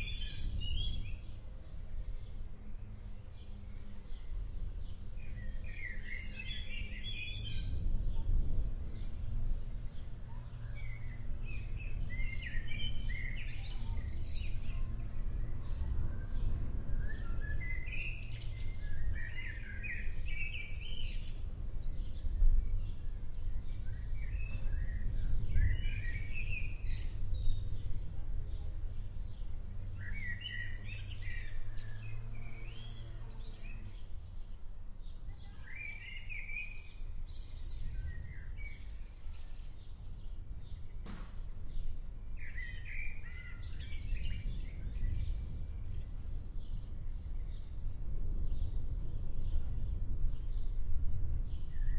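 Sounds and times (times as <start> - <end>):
bird chirping: 0.0 - 1.4, 3.0 - 46.8
steady low rumble: 0.0 - 35.3, 36.8 - 51.9.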